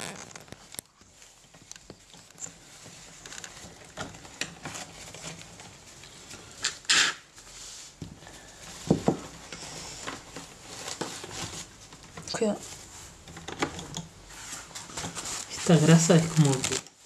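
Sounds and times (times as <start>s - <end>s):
tissue rustling: 0.0s - 6.6s, 7.3s - 13.3s, 14.1s - 17.0s.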